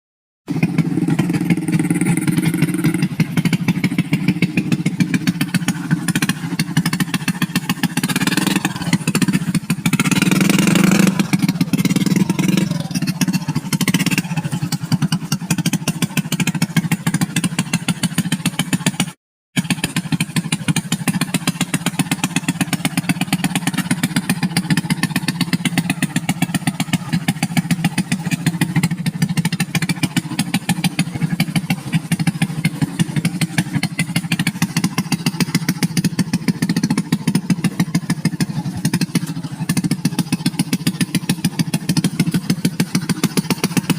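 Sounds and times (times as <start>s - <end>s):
small motorcycle engine running: 0.5s - 43.9s.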